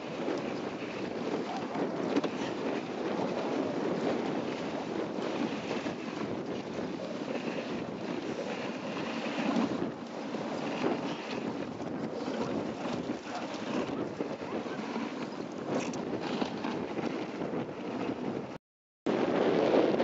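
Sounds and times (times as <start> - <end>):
sled runners scraping on snow: 0.0 - 18.6, 19.2 - 20.0
wind buffeting microphone: 0.0 - 20.0.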